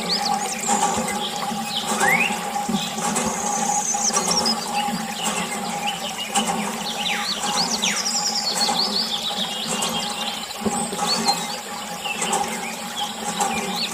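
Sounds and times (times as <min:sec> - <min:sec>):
low mechanical hum: 0:00.0 - 0:13.9.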